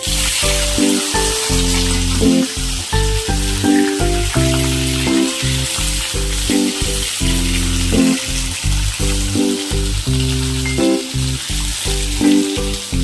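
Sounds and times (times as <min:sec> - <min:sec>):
background music with beat: 0:00.0 - 0:13.0
food sizzling in hot oil: 0:00.0 - 0:13.0.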